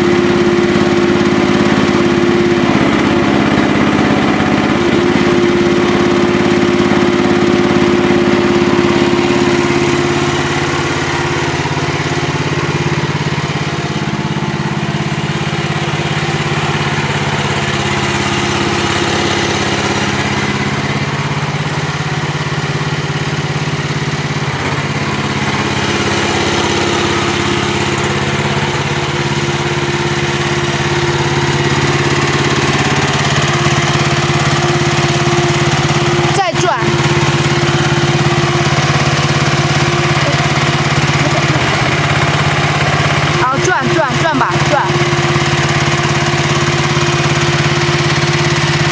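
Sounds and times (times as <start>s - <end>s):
small gasoline engine running: 0.0s - 48.9s.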